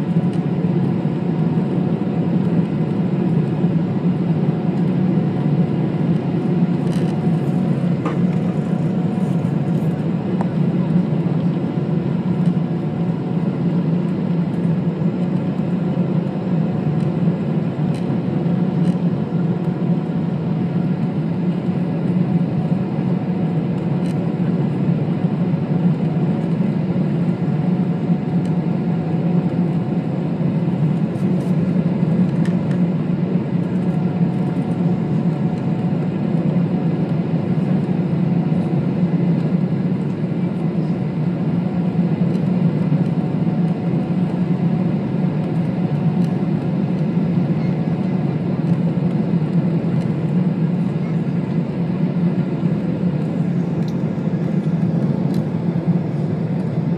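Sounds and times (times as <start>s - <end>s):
jet engines droning: 0.0s - 56.9s.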